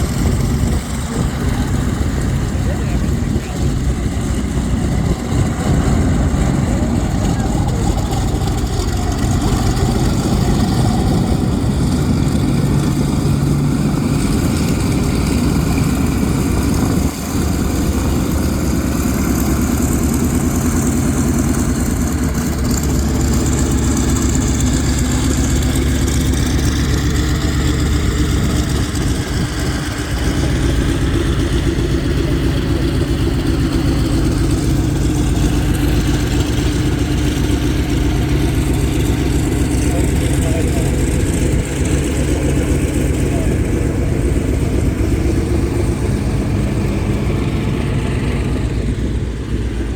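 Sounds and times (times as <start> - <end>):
radial aircraft engine droning: 0.0 - 49.9.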